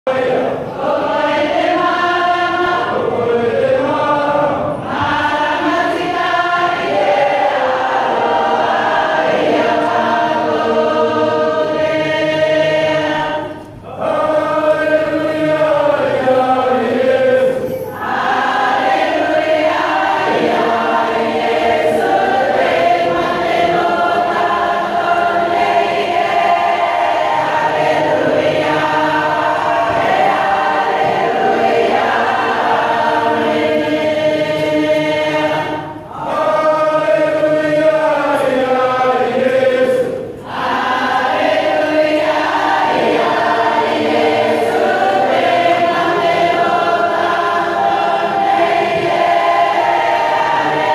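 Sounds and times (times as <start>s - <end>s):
congregation singing a hymn: 0.1s - 50.9s.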